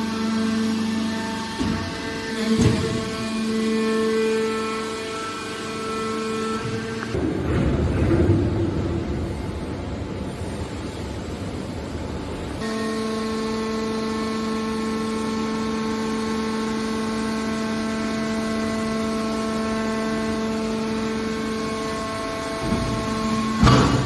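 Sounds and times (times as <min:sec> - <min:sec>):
background machine noise: 0:00.0 - 0:24.0
steady mechanical hum: 0:00.0 - 0:24.0.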